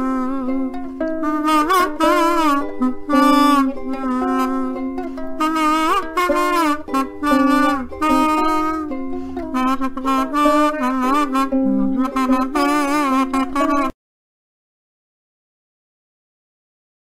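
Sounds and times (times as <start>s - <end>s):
harmonica playing slow chords: 0.0s - 14.0s.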